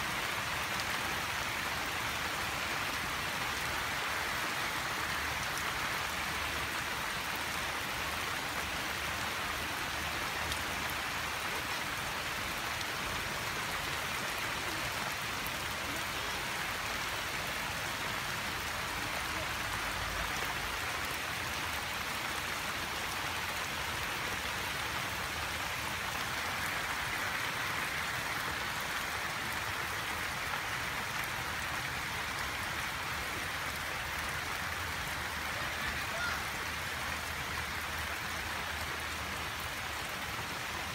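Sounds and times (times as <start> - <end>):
rain falling on shallow water: 0.0 - 40.9.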